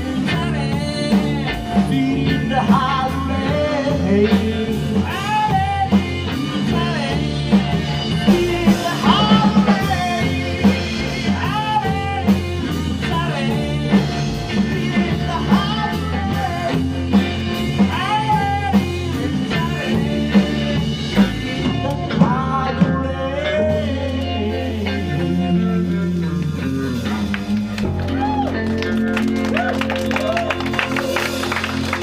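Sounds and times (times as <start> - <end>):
drum beat: 0.0 - 22.6, 26.4 - 32.0
lead guitar bending notes: 0.0 - 32.0
steady bass line: 0.0 - 32.0.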